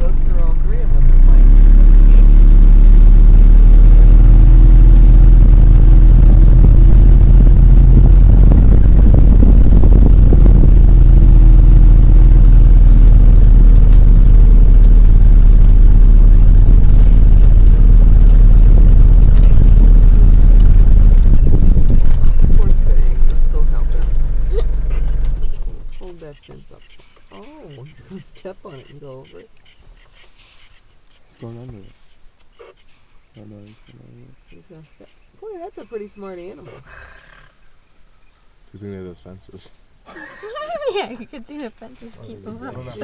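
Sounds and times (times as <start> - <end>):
vehicle engine droning: 0.0 - 34.5.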